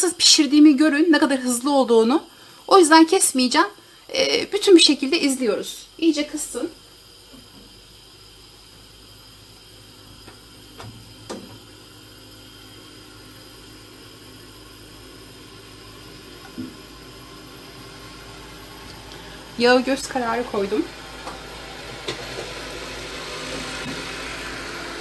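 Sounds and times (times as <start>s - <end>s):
gas burner hissing: 0.0s - 25.0s.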